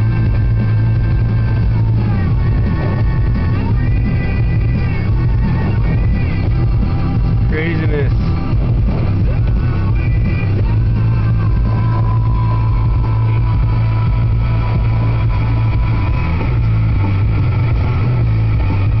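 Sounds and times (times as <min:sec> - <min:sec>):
car driving drone: 0:00.0 - 0:19.0
music playing: 0:00.0 - 0:19.0.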